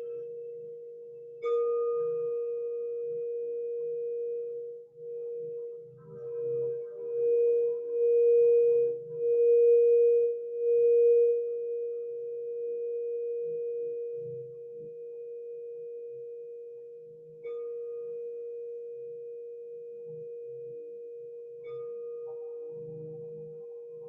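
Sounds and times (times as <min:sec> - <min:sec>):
singing bowl ringing: 0:00.0 - 0:24.0.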